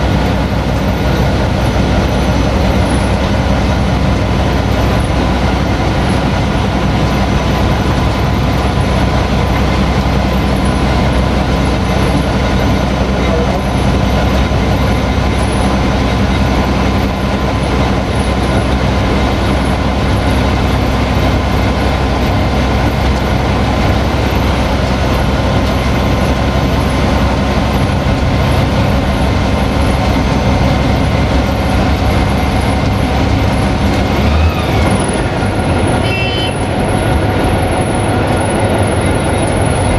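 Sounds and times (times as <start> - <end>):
diesel engine drone: 0.0 - 39.9
wheel and rail running noise: 0.0 - 39.9.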